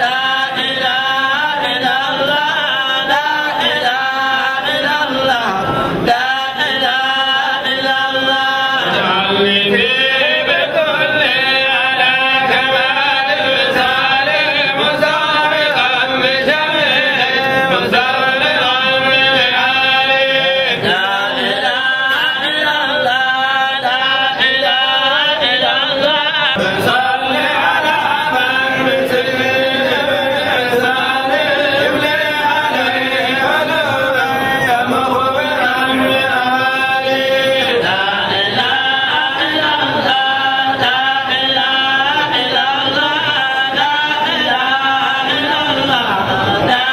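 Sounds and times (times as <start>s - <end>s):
man singing into a microphone: 0.0s - 46.9s
men chanting: 0.0s - 46.9s.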